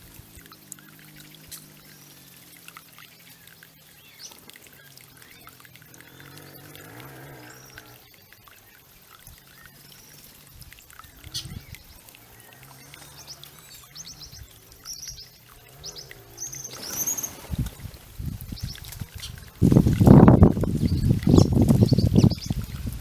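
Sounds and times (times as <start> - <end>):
fountain water trickling: 0.0 - 23.0
small birds chirping: 0.0 - 23.0
water splashing: 0.0 - 23.0.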